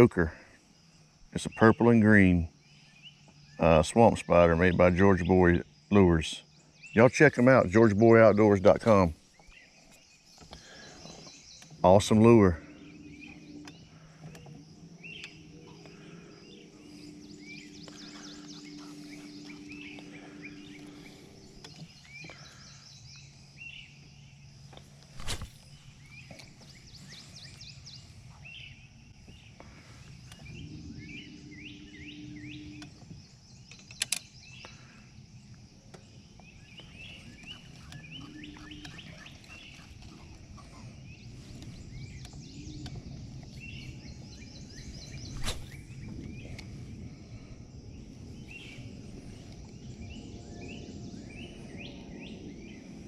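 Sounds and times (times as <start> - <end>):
birds chirping: 0.0 - 53.0
low steady hum: 0.0 - 53.0.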